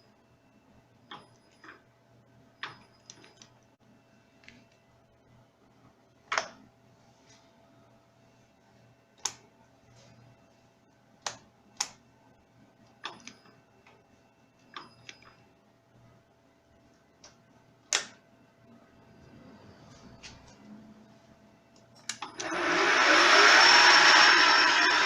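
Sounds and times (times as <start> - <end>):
faint electrical hum: 0.0 - 22.6.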